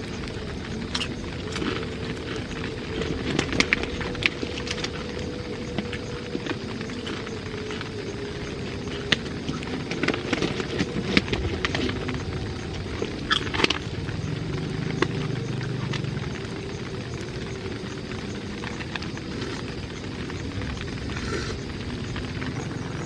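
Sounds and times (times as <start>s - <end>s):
rain hissing on tent: 0.0s - 23.0s.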